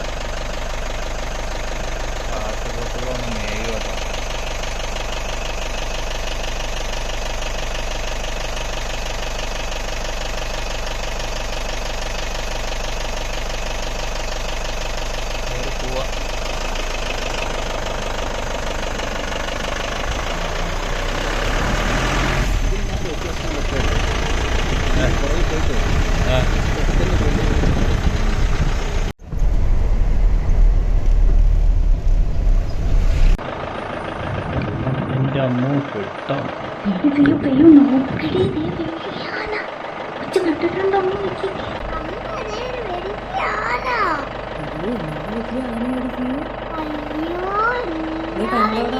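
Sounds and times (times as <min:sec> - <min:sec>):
jeep engine running: 0:00.0 - 0:48.9.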